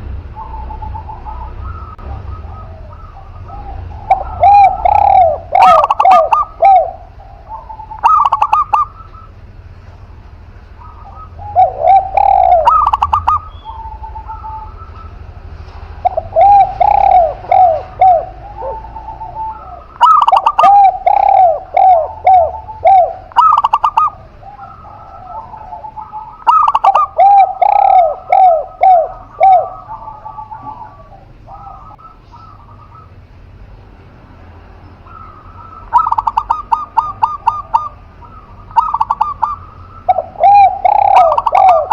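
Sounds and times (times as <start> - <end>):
doves cooing: 0.0 - 41.9.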